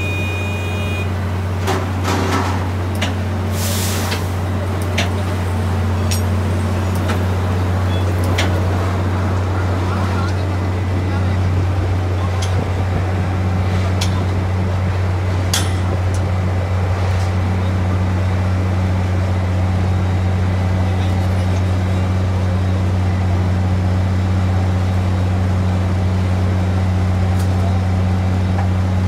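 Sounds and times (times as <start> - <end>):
engine droning: 0.0 - 29.0.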